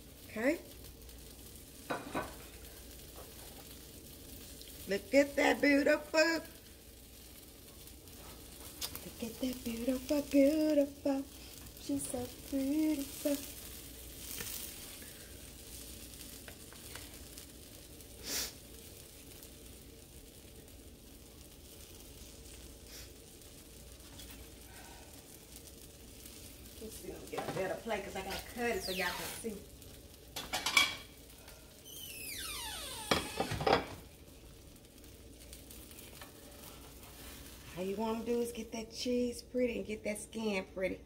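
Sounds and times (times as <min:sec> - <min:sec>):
sandwich sizzling in a skillet: 0:00.0 - 0:41.0.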